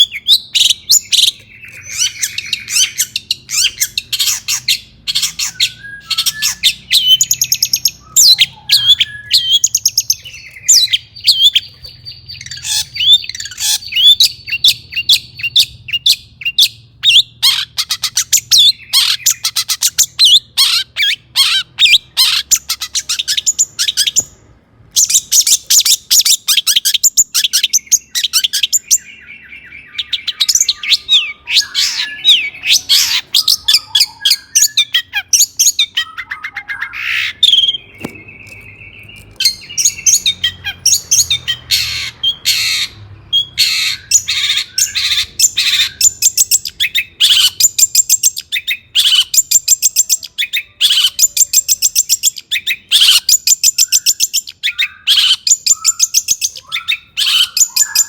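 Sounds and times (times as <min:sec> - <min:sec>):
bird whistle: 0:00.0 - 0:24.4, 0:25.0 - 0:58.0
bird chattering song: 0:00.0 - 0:58.0.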